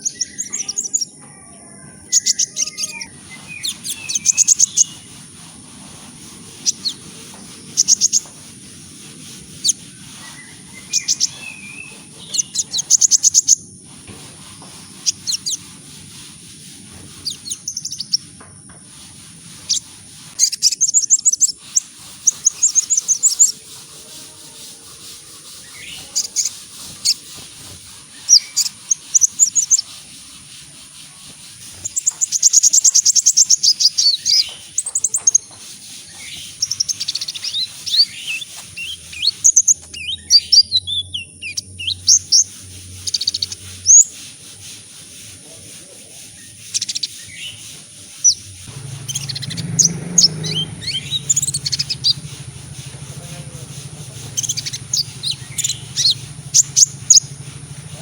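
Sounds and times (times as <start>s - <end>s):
bird high-pitched chirps and trills: 0.0s - 58.0s.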